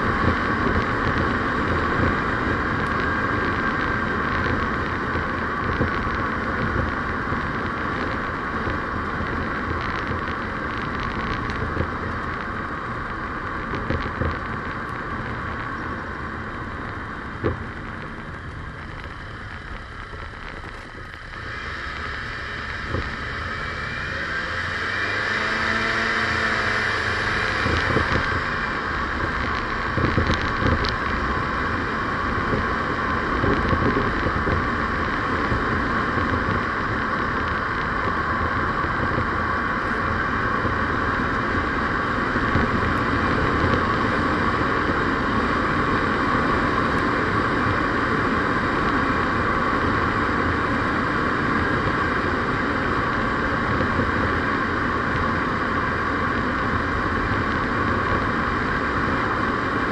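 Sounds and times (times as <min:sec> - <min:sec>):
vehicle road and engine noise: 0:00.0 - 0:59.9.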